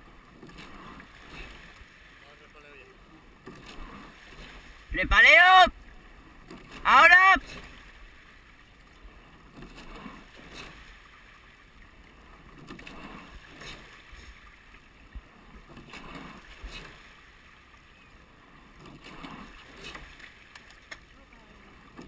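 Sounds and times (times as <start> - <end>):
oar strokes in water: 0.0 - 2.3, 3.3 - 22.0
oars and rigging clicking: 0.0 - 22.0
water and wind hiss: 0.0 - 22.0.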